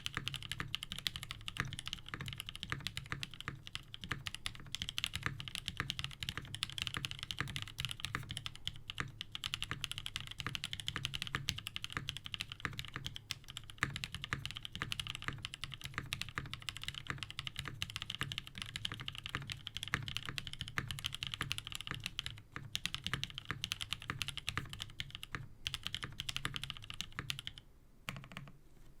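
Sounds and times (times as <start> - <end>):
fast mechanical keyboard typing: 0.0 - 28.6.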